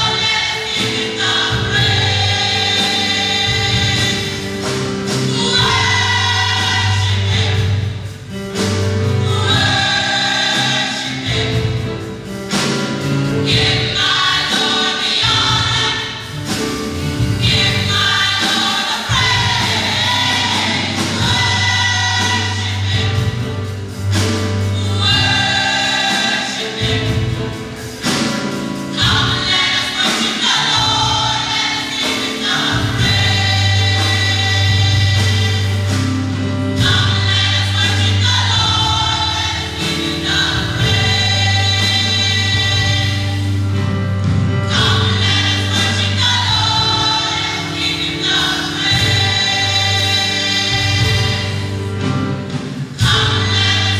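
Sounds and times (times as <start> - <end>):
gospel choir singing: 0.0 - 53.9.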